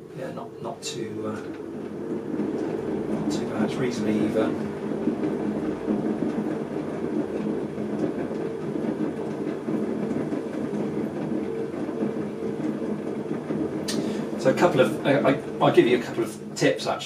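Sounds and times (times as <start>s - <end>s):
potter's wheel motor hum: 0.0s - 17.0s
wet hands on spinning clay: 0.0s - 17.0s.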